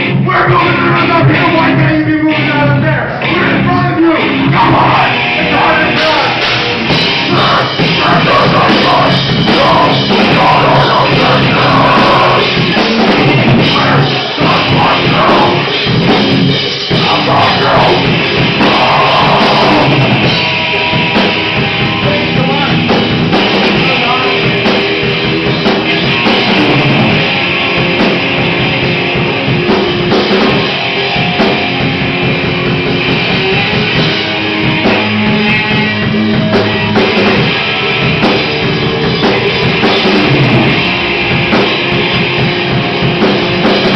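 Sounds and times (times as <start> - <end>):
drum kit: 0.0 - 43.9
rock band playing live: 0.0 - 43.9.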